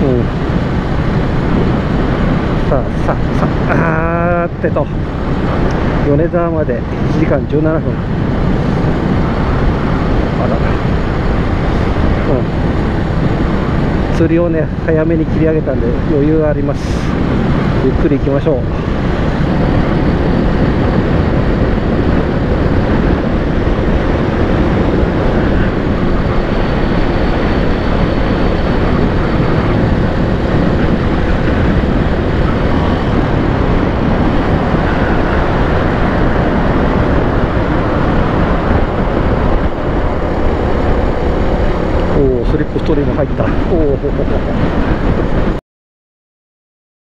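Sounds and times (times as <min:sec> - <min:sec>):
wind rushing over microphone: 0:00.0 - 0:45.6.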